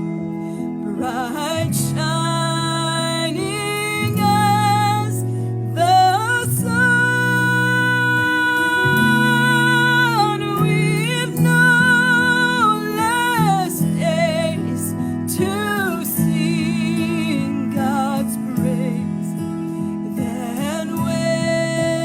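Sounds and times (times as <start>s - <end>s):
person singing with vibrato: 0.0s - 22.0s
sustained instrumental chords: 0.0s - 22.0s.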